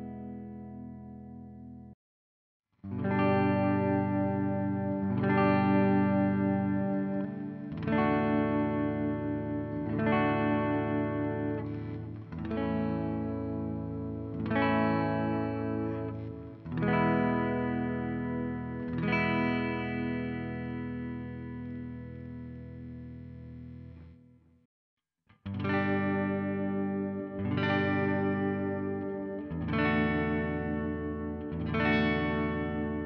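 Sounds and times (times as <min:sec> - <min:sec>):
clean electric guitar chords: 0:00.0 - 0:02.0, 0:02.8 - 0:24.5, 0:25.5 - 0:33.0.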